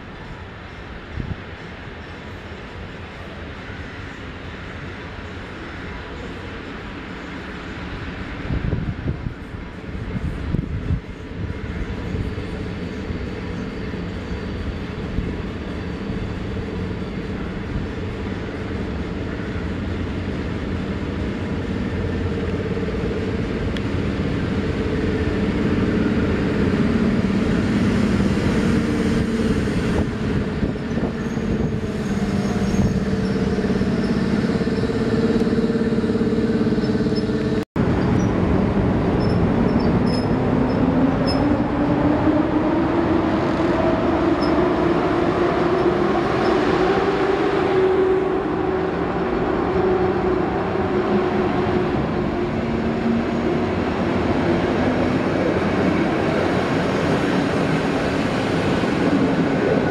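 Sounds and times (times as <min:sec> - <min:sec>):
electric locomotive hum: 0:00.0 - 0:59.9
rising locomotive whine: 0:00.0 - 0:59.9
train wheels rumbling: 0:09.4 - 0:59.9.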